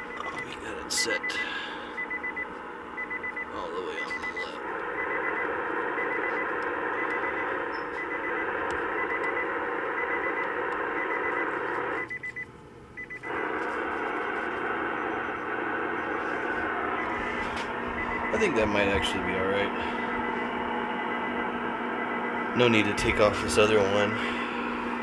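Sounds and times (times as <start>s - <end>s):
radio static hiss: 0.0s - 2.4s, 3.3s - 12.1s, 13.3s - 25.0s.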